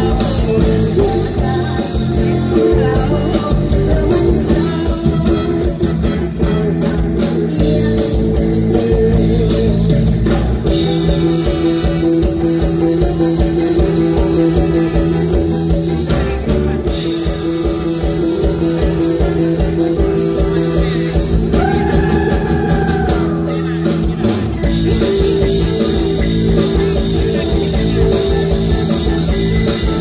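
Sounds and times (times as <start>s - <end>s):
live band playing upbeat song: 0.0s - 30.0s.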